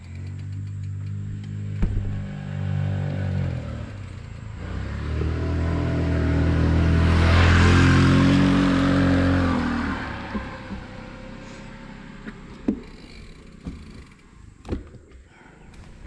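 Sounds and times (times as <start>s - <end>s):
small motorcycle passing: 0.0s - 14.6s.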